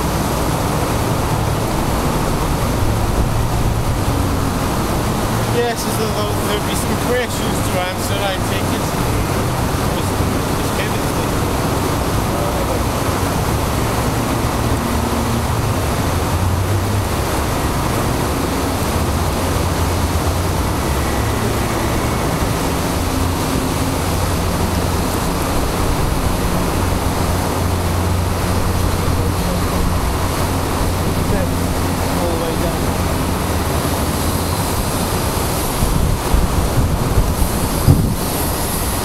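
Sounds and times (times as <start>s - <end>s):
boat engine humming: 0.0s - 39.0s
water rushing over a weir: 0.0s - 39.0s.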